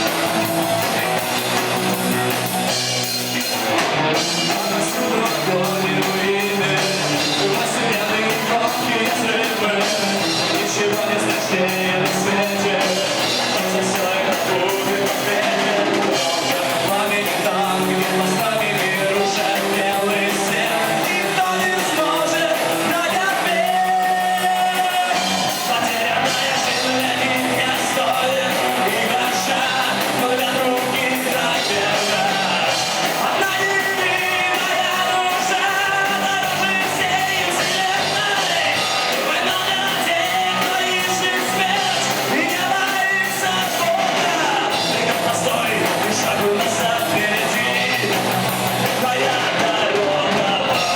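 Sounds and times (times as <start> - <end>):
rock band playing live: 0.0 - 50.9
singer shouting and singing: 0.0 - 50.9.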